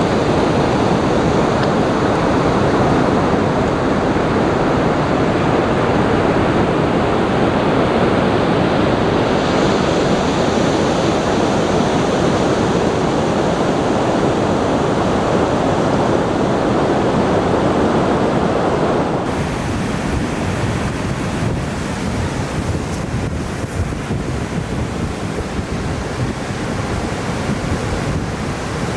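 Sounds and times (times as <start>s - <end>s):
rushing water: 0.0s - 17.1s, 19.2s - 28.9s.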